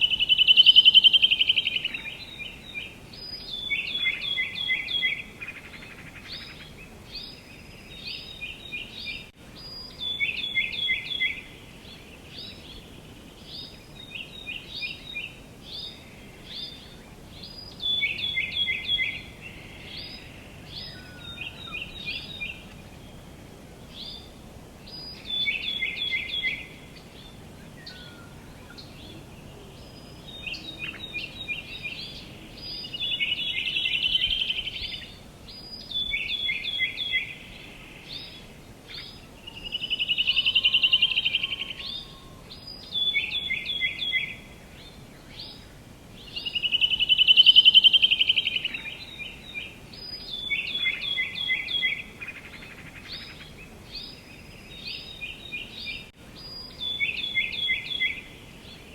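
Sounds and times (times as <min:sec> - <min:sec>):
faint outdoor background hiss: 0:00.0 - 0:58.9.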